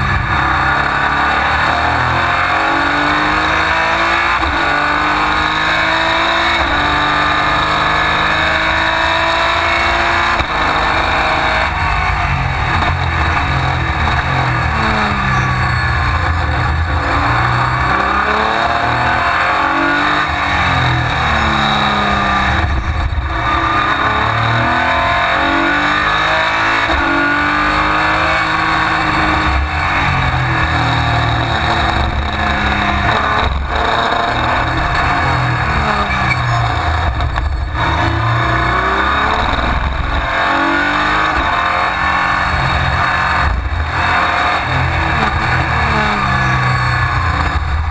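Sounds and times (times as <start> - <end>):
race car engine accelerating: 0.0 - 47.9.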